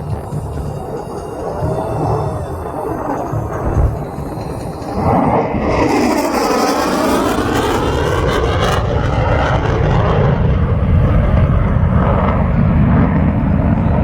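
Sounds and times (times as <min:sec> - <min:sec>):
jet fly-by: 0:00.0 - 0:14.0.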